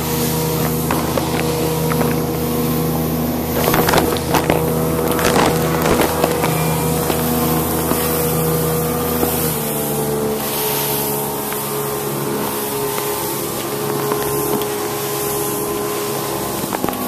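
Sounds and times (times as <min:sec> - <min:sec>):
motorboat engine droning: 0:00.0 - 0:17.0
rushing noise bursts: 0:00.0 - 0:17.0.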